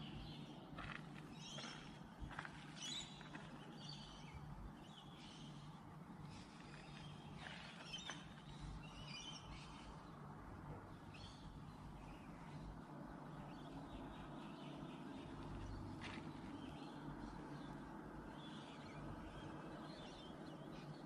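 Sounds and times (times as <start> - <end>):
faint birdsong chirps: 0.0 - 21.0
low background hum: 0.0 - 21.0.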